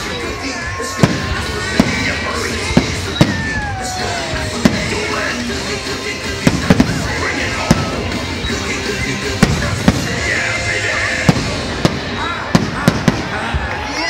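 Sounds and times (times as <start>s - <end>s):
fireworks bursting with bangs: 0.0s - 14.0s
music playing: 0.0s - 14.0s.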